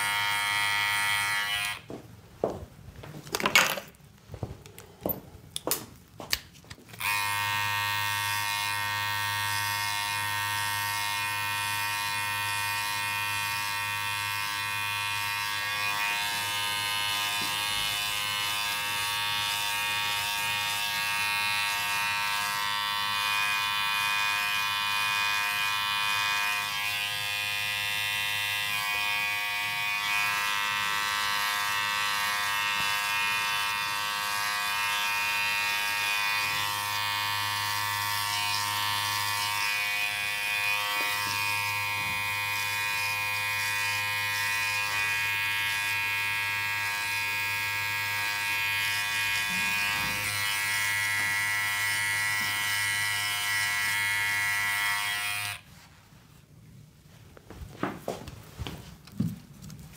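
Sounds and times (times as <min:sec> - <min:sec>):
electric hair clippers buzzing: 0:00.0 - 0:01.9, 0:06.9 - 0:55.7.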